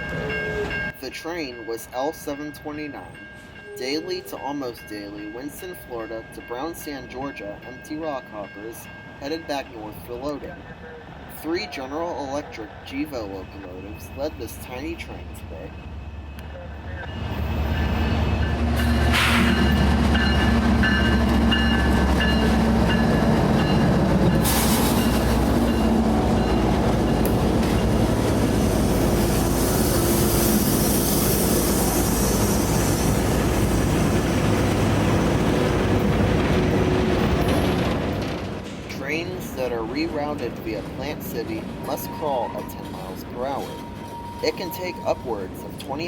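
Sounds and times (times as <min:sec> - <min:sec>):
locomotive engine drone: 0:02.3 - 0:46.0
wheel and rail noise: 0:03.0 - 0:46.0.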